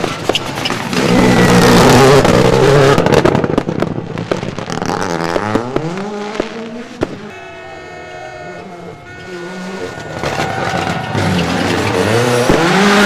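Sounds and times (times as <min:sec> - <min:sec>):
rally car engine passing: 0:00.0 - 0:03.4, 0:04.8 - 0:13.0
engine cracks and pops: 0:00.0 - 0:07.3, 0:09.6 - 0:13.0.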